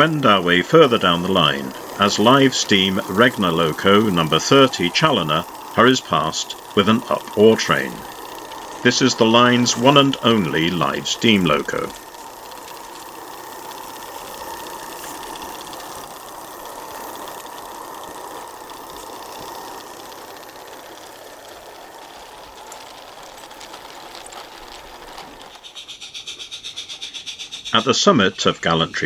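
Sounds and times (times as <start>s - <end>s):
rhythmic steam pulsing: 0.0s - 29.0s
steam locomotive hissing: 0.0s - 29.0s.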